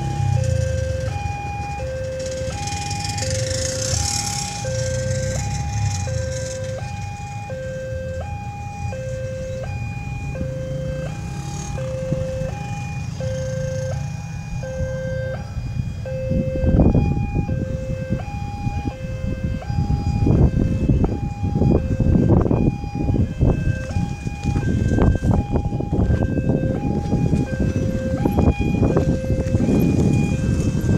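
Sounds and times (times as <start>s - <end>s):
noisy gusts: 0.0s - 30.9s
two-tone crossing alarm: 0.0s - 30.9s.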